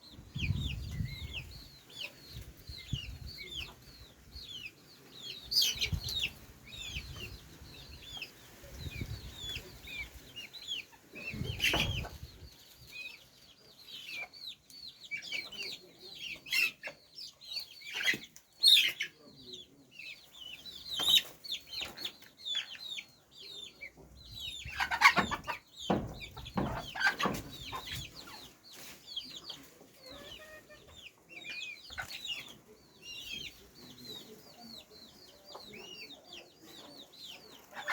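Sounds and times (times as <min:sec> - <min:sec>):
chickens clucking: 0:00.0 - 0:37.9.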